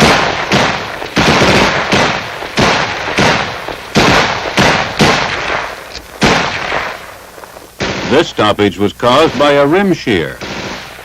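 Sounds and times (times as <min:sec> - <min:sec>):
gunshots with echo: 0:00.0 - 0:11.0.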